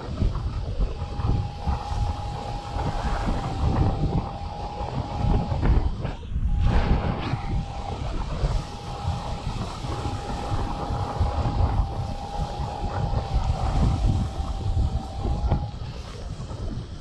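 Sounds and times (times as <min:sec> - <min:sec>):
steady high variometer tone: 0:00.0 - 0:17.0
wind buffeting microphone: 0:00.0 - 0:17.0.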